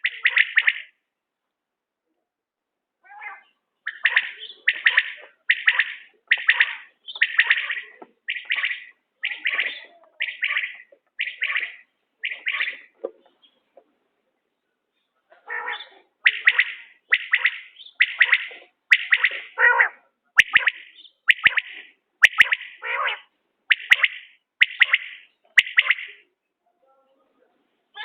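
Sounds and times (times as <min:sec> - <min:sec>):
quail calling: 0:00.0 - 0:01.0, 0:03.0 - 0:13.6, 0:15.3 - 0:26.3.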